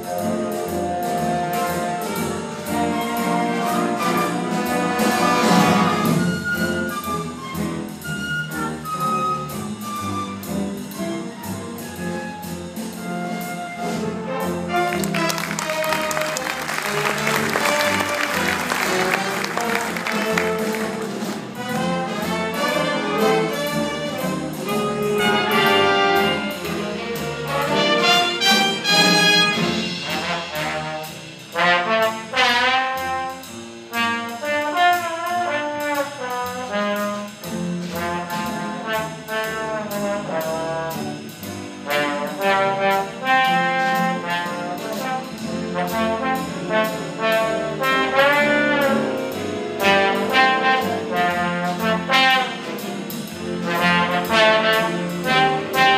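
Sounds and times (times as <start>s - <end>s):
brass melody: 0.0s - 55.9s
drum kit cymbal beat: 0.0s - 55.9s
piano: 0.0s - 55.9s.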